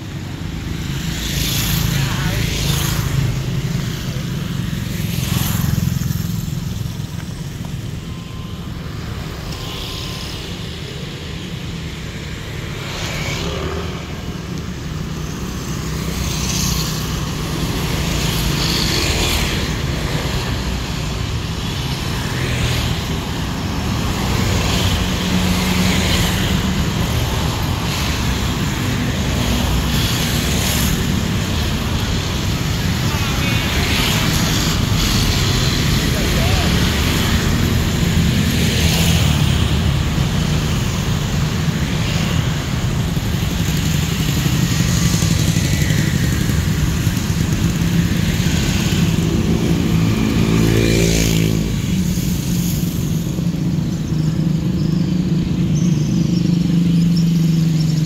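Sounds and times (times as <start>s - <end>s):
cars passing: 0.0s - 58.0s
motorcycles passing: 0.0s - 58.0s.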